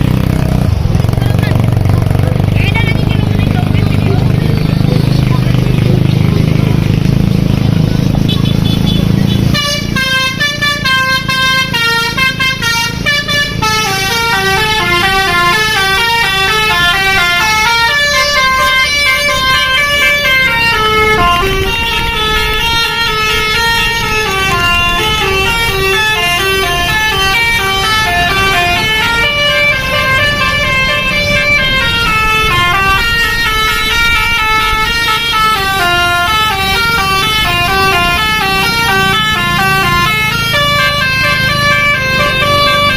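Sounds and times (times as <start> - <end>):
musical bus horn melody: 8.1 - 42.9.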